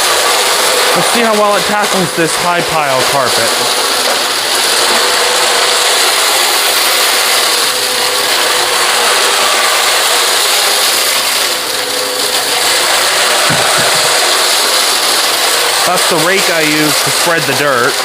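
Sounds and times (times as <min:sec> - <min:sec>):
dirt rattling in vacuum: 0:00.0 - 0:18.0
upright vacuum running: 0:00.0 - 0:18.0.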